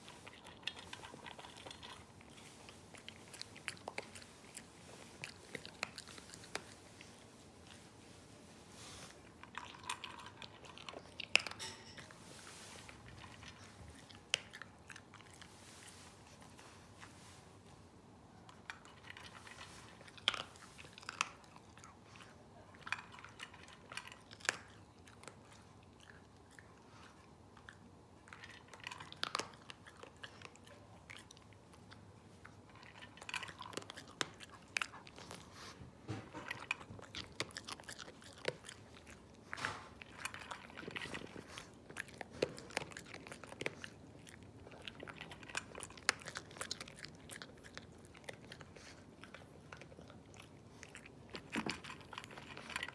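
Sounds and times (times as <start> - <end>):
dog crunching dry kibble: 0.0 - 7.8, 9.2 - 12.1, 18.5 - 52.9.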